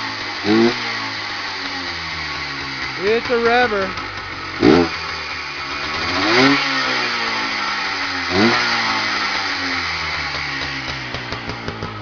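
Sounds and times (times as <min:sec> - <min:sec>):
two-stroke engine idling and revving: 0:00.0 - 0:12.0.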